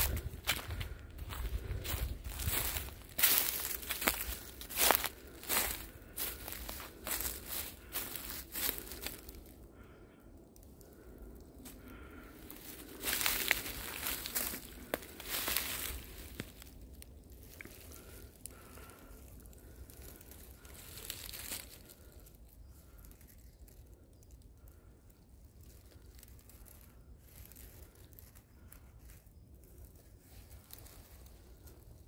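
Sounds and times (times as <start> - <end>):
dry leaves crunching: 0.0 - 9.5, 11.6 - 23.6, 25.6 - 32.0
faint outdoor ambience: 0.0 - 32.0.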